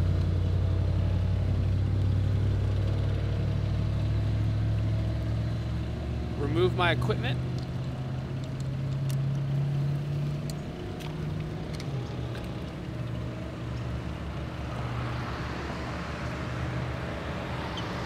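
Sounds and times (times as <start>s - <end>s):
low traffic engine hum: 0.0s - 18.0s
vehicle approaching: 0.0s - 18.0s.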